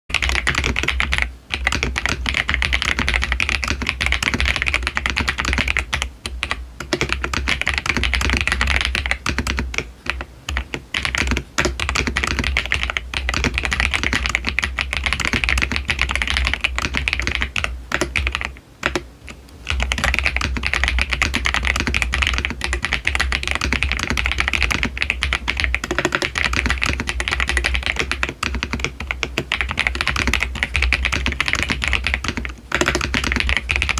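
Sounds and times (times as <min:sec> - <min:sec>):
mechanical keyboard typing: 0:00.1 - 0:33.9.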